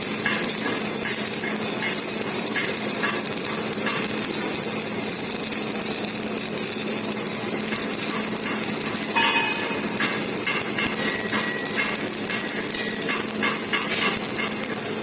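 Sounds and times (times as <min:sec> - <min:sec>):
welding arc crackling and hissing: 0:00.0 - 0:15.0.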